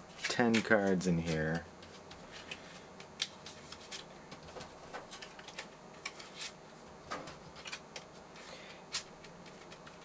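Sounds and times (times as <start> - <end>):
plastic cards clicking and scraping: 0.1 - 6.6, 7.3 - 10.0.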